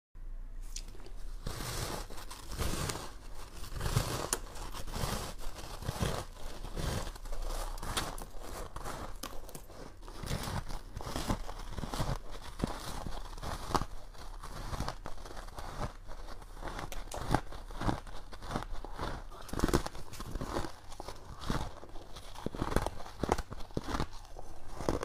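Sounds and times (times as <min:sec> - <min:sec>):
crunching and chewing frost ice: 0:00.7 - 0:25.0.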